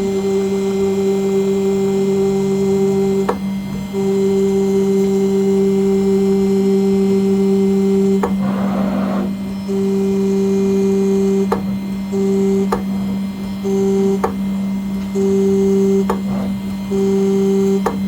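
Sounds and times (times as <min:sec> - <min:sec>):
engraving machine hum and whine: 0:00.0 - 0:18.0.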